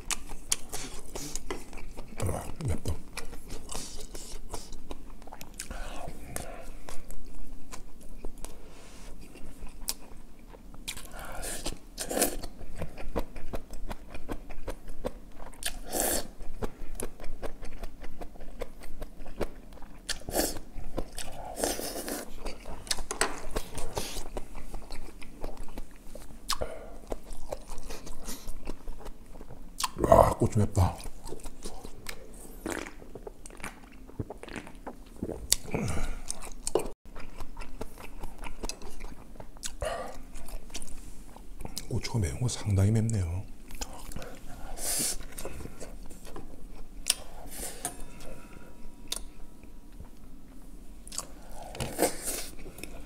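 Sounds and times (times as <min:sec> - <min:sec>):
wet chewing and lip-smacking: 0:00.0 - 0:08.6, 0:09.2 - 0:30.0, 0:30.8 - 0:42.0, 0:43.6 - 0:47.4, 0:49.0 - 0:53.0.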